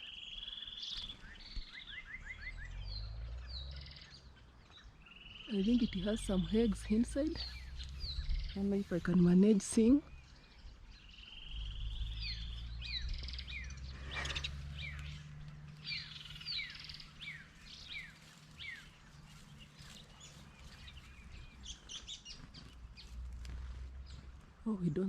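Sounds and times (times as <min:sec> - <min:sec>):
small birds chirping: 0:00.0 - 0:25.0
low steady rumble: 0:02.2 - 0:25.0.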